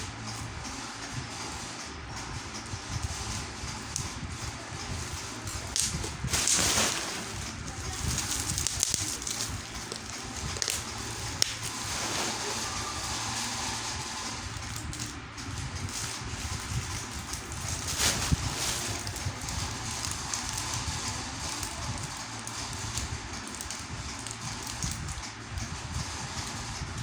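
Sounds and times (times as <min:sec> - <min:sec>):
packaging rustling: 0:03.0 - 0:25.1.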